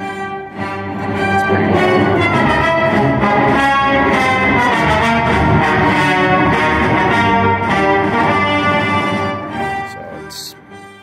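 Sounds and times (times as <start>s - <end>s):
brass music through a speaker: 0.0s - 11.0s.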